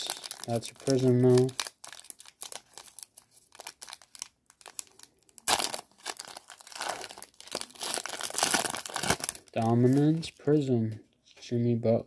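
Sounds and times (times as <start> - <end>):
foil wrapper crinkling and tearing: 0.0 - 10.3.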